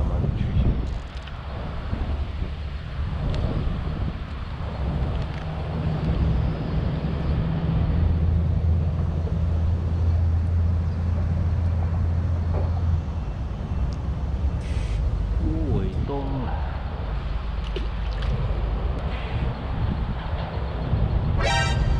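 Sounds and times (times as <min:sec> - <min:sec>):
low engine drone: 0:00.0 - 0:21.9
wind-like noise: 0:00.0 - 0:21.9.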